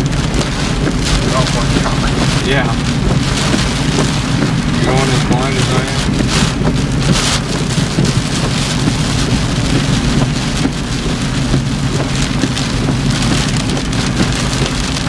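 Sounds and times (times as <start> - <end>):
heavy rain on car roof: 0.0 - 15.0
low car rumble: 0.0 - 15.0.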